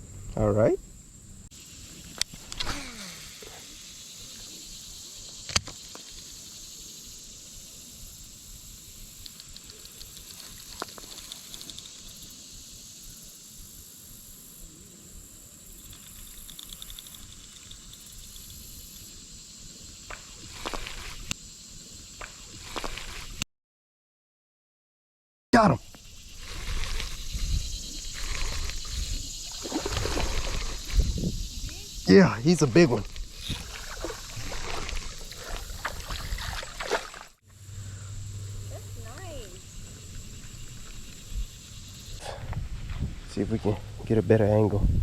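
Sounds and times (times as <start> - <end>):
high-pitched insect chorus: 0.0 - 23.4, 25.6 - 45.0.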